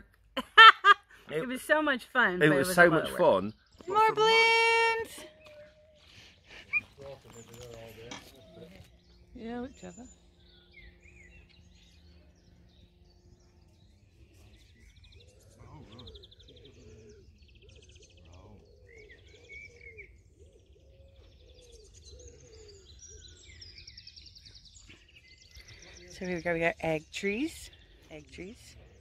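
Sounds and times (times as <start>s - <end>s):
small birds chirping: 1.0s - 29.0s.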